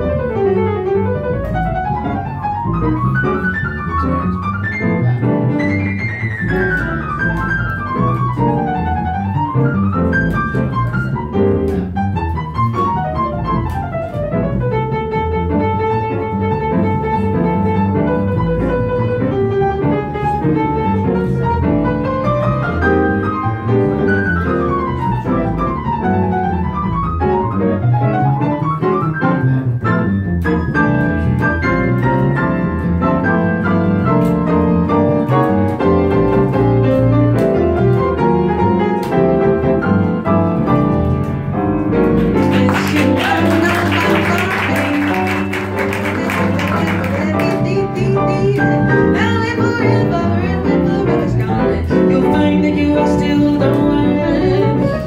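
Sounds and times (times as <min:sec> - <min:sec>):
jazz piano runs: 0:00.0 - 0:55.0.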